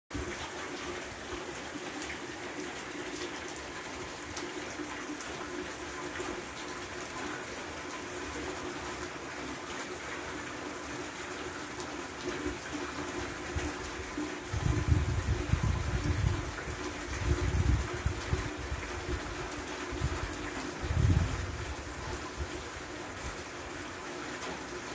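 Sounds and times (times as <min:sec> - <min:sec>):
heavy rain on roof tiles: 0:00.1 - 0:24.9
rain splashing into water: 0:00.1 - 0:24.9.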